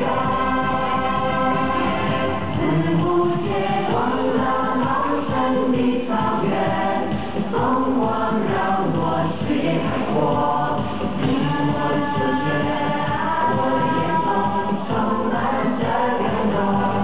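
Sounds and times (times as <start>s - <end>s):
choir singing music: 0.0s - 17.0s.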